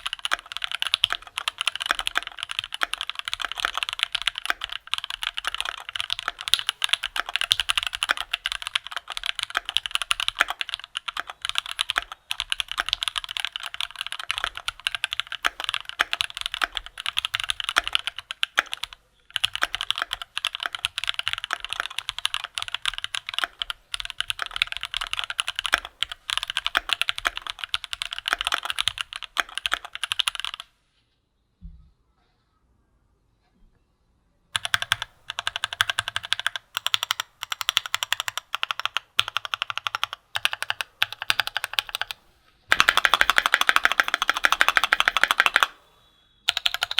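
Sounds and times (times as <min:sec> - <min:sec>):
fast typing on mechanical keyboard: 0:00.0 - 0:30.7, 0:34.6 - 0:45.8, 0:46.5 - 0:46.9.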